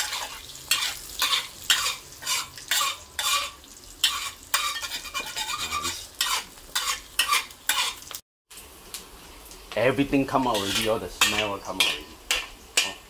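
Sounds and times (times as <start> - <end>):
metal spatula scraping a wok: 0.0 - 8.2, 10.4 - 13.0
oil sizzling: 0.0 - 13.0.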